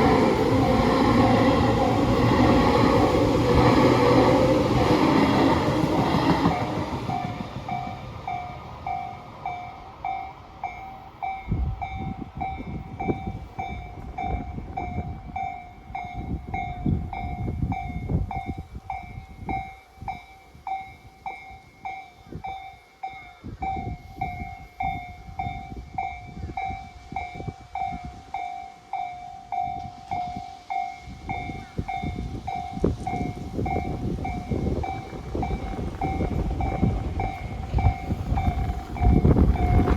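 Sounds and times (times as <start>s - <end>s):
train rumbling and clattering: 0.0s - 21.3s, 23.5s - 39.9s.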